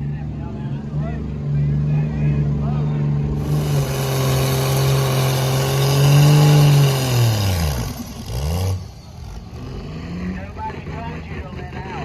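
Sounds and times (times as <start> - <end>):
truck engine revving: 1.9 - 12.0.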